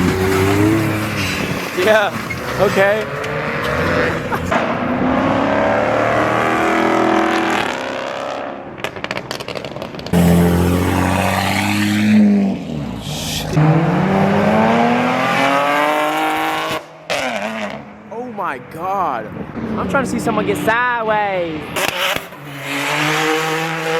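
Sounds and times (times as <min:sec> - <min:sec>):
car engines revving: 0:00.0 - 0:23.9.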